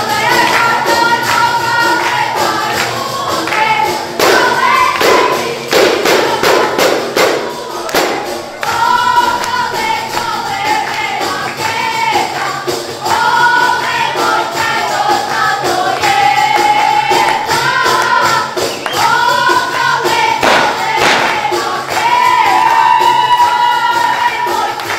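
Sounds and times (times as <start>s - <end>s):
frame drums beating: 0.0s - 24.9s
women singing together: 0.0s - 24.9s.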